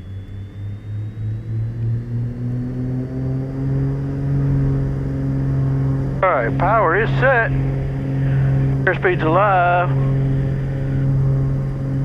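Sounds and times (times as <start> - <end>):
twin piston engines running up: 0.0 - 12.0.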